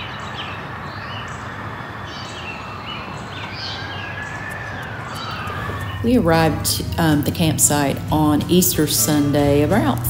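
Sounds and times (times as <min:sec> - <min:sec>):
steady rushing noise: 0:00.0 - 0:09.1
birds chirping: 0:00.0 - 0:10.0.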